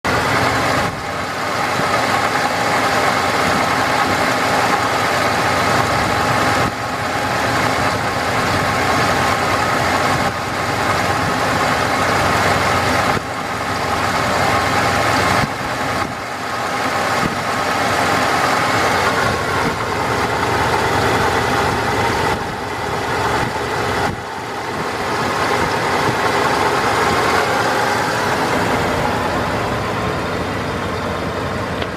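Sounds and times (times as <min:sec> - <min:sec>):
pickup truck engine idling: 0:00.0 - 0:31.9.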